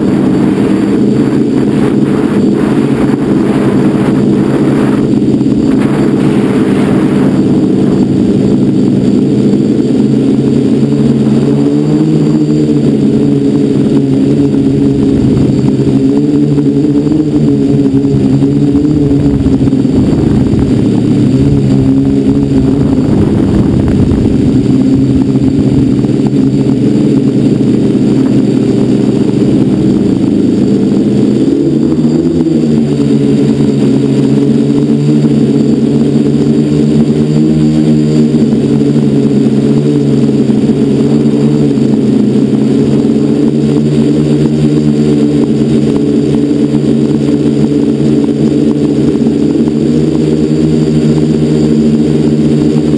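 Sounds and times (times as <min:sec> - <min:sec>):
quadcopter motors buzzing: 0:00.0 - 0:52.9
wind rumble on microphone: 0:00.0 - 0:52.9.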